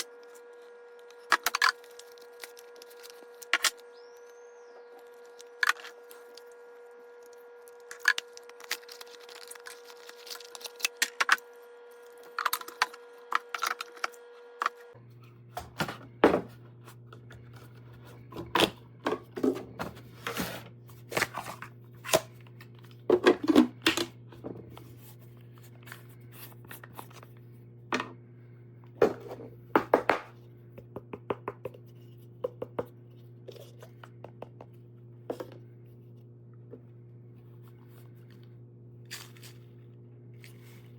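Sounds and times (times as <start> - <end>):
faint hum: 0.0 - 40.9.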